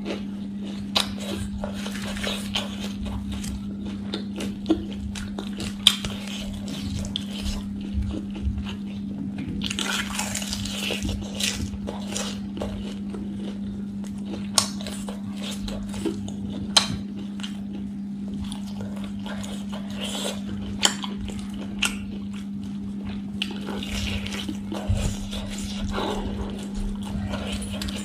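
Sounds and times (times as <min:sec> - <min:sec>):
chewing and mouth sounds: 0:00.0 - 0:28.0
low hum: 0:00.2 - 0:28.0.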